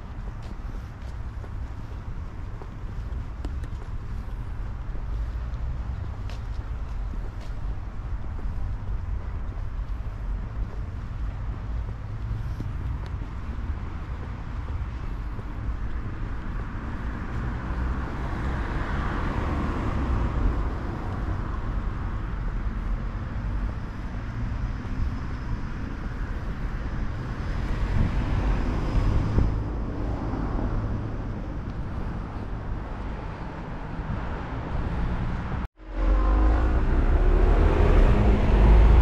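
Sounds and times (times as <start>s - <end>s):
low traffic rumble: 0.0s - 39.0s.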